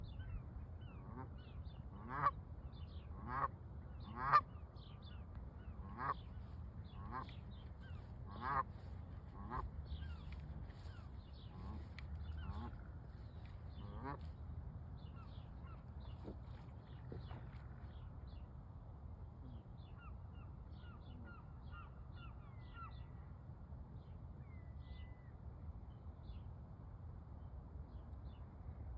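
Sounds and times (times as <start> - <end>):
low outdoor rumble: 0.0 - 28.9.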